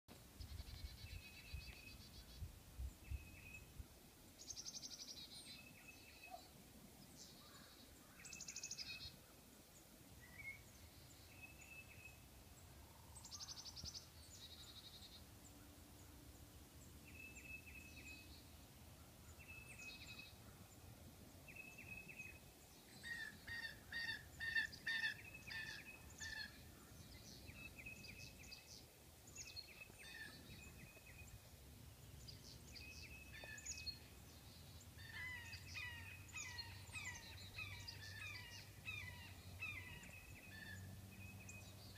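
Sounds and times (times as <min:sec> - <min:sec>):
songbirds chirping: 0:00.1 - 0:41.9.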